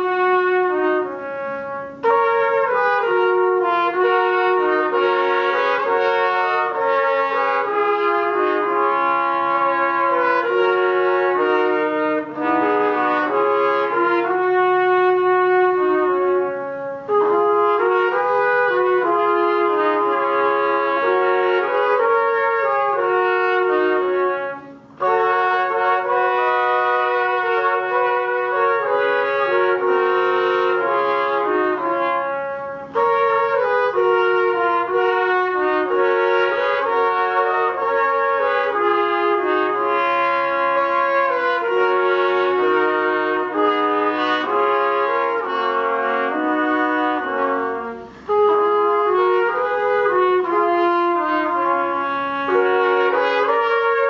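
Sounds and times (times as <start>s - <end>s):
trumpets playing in harmony: 0.0s - 54.0s.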